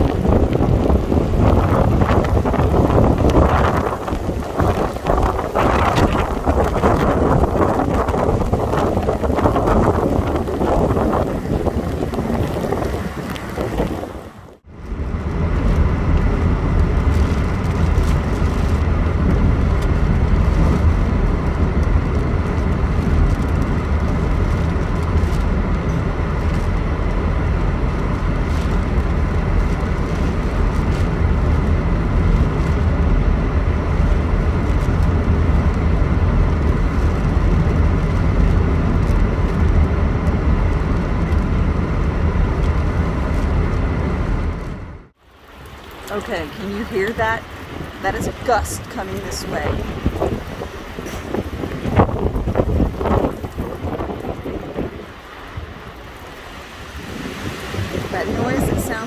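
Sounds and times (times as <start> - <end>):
road noise inside car: 0.0 - 59.0
storm wind: 0.0 - 59.0.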